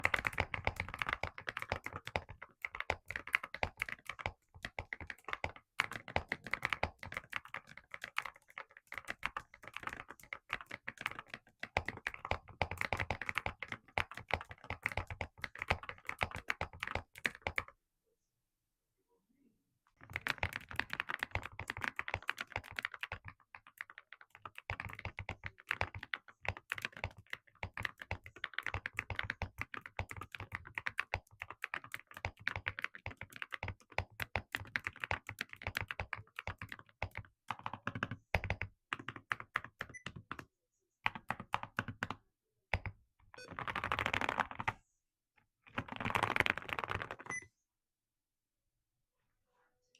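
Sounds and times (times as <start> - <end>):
mechanical keyboard typing: 0.0 - 17.7, 20.0 - 40.5, 41.1 - 44.8, 45.7 - 47.5.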